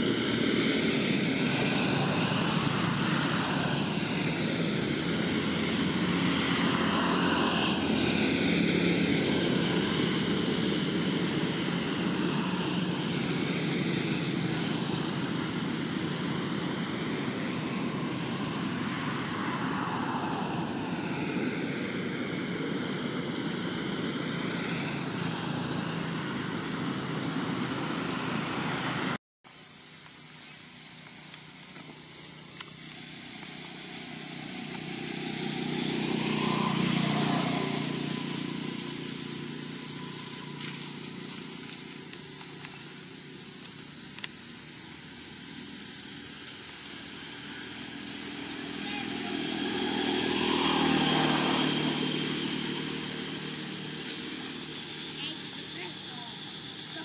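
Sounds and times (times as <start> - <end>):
road vehicles passing: 0.0 - 29.2, 29.8 - 57.0
steady high-pitched hiss: 0.0 - 57.0.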